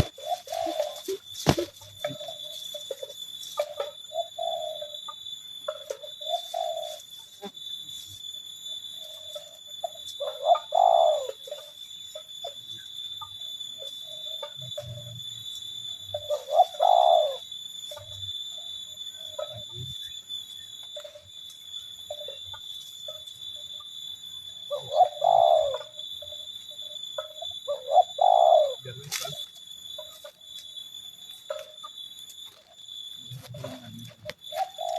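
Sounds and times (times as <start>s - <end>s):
doves cooing: 0.0s - 7.6s, 9.0s - 20.2s, 22.0s - 30.4s, 31.4s - 34.9s.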